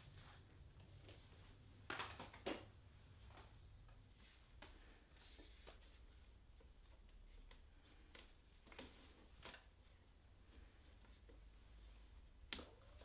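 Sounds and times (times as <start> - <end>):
faint soft rustles and taps: 0.0 - 13.0.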